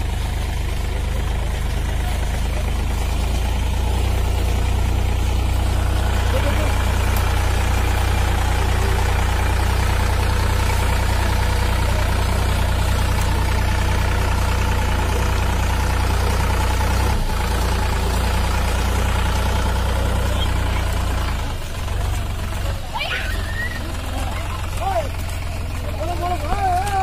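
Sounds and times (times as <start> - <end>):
diesel tractor engine rumbling: 0.0 - 27.0.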